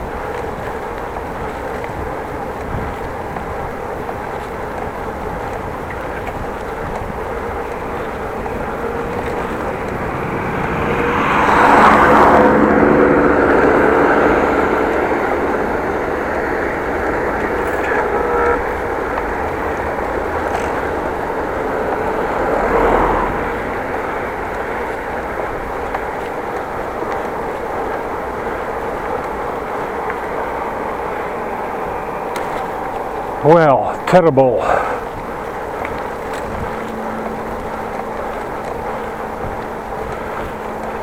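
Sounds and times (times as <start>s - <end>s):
traffic noise: 0.0s - 41.0s
wind and road rush: 0.0s - 41.0s
vehicle passing: 4.4s - 41.0s.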